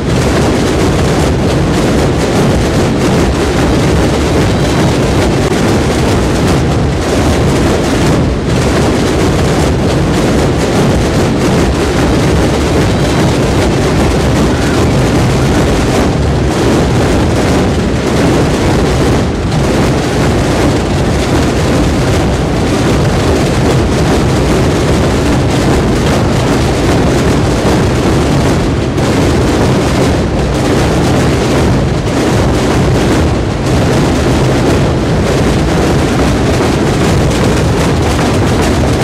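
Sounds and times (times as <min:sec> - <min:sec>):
massed drumming rumble: 0:00.0 - 0:39.0.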